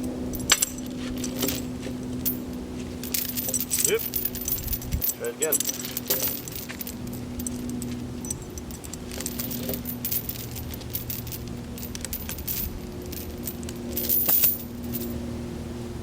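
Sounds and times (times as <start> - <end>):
engine idling hum: 0.0 - 16.0
chain links clinking against metal: 0.3 - 15.2.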